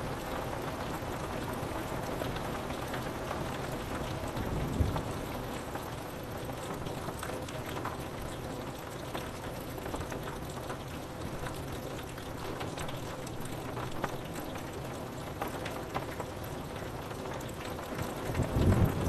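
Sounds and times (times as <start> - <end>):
rain on window glass: 0.0 - 19.0
raindrops ticking on glass: 0.2 - 19.0.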